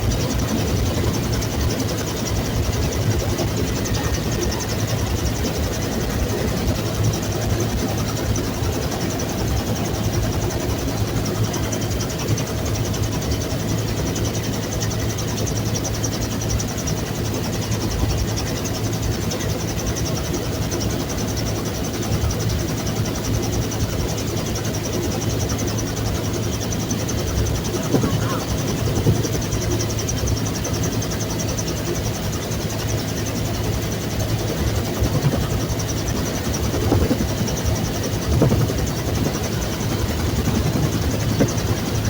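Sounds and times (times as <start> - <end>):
helicopter turbine and rotor: 0.0 - 42.0.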